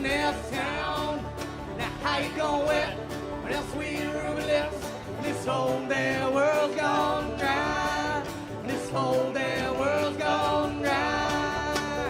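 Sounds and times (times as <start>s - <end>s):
banjo: 0.0s - 12.0s
guitar: 0.0s - 12.0s
voices singing in harmony: 0.0s - 12.0s.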